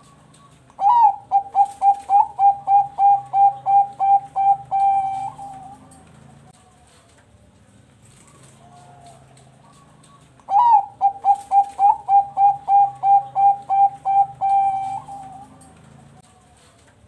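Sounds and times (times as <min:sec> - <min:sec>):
dove cooing: 0:00.0 - 0:07.0, 0:08.1 - 0:16.3.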